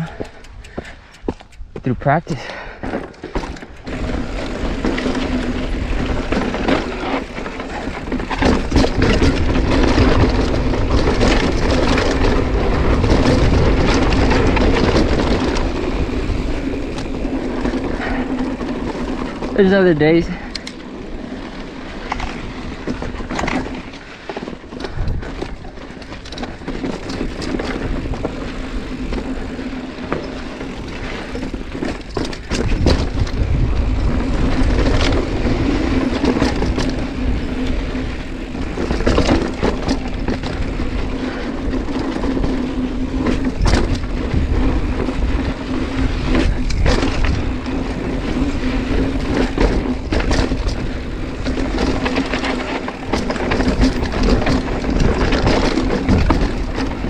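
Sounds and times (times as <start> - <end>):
mountain bike riding rough trail: 0.0 - 57.0.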